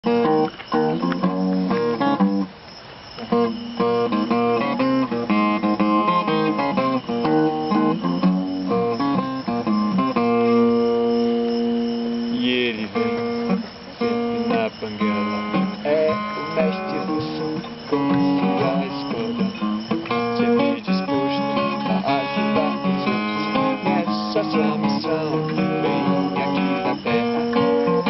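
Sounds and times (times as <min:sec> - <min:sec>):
acoustic guitar chords: 0:00.0 - 0:28.0.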